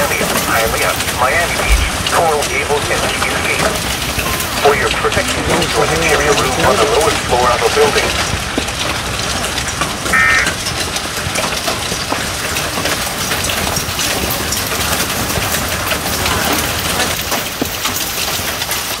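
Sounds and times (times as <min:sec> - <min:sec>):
hailstones ticking: 0:00.0 - 0:19.0
heavy rain: 0:00.0 - 0:19.0.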